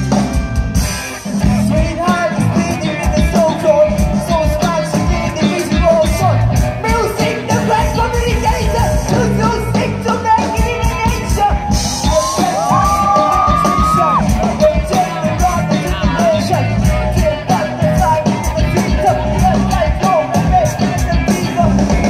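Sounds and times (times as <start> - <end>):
bass guitar: 0.0 - 22.0
drum kit: 0.0 - 22.0
electric guitars: 0.0 - 22.0
person singing lead vocal: 1.2 - 22.0.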